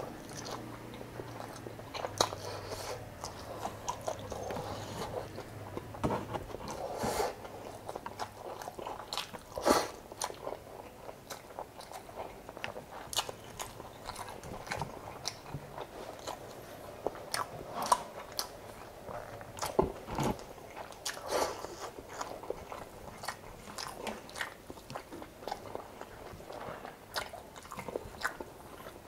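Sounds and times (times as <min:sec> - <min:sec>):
person chewing and smacking: 0:00.0 - 0:29.0.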